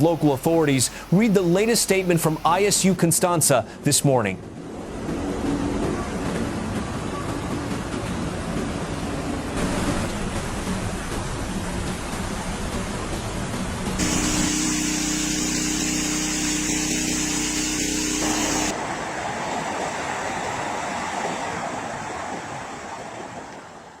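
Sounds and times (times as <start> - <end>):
steady mechanical hum: 0.0 - 3.1, 3.7 - 21.4.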